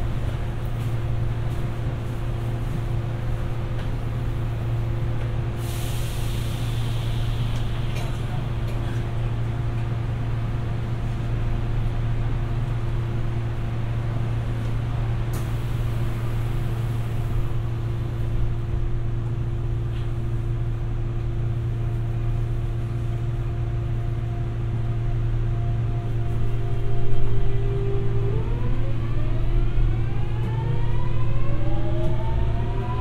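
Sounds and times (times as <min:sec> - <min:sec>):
subway wheels rumbling on rail: 0:00.0 - 0:33.0.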